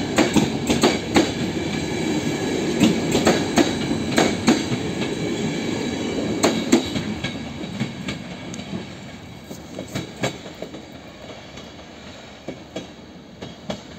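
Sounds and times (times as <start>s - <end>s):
train wheels clicking over rails: 0.0s - 13.9s.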